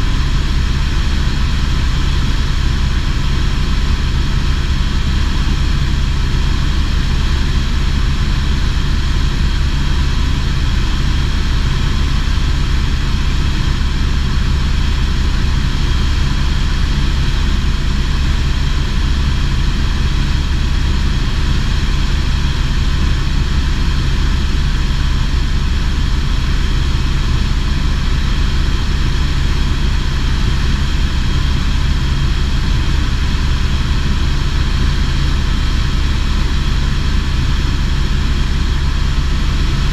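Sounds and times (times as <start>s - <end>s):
helicopter engine drone: 0.0s - 39.9s.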